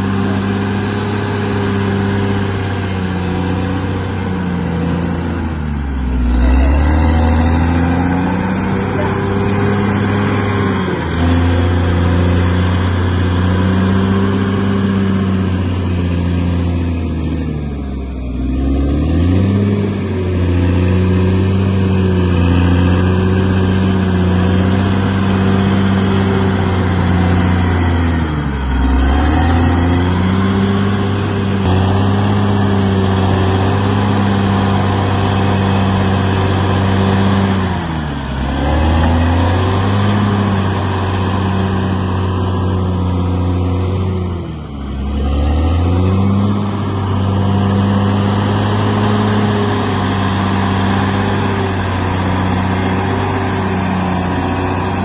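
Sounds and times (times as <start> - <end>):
bulldozer diesel engine working: 0.0 - 55.0.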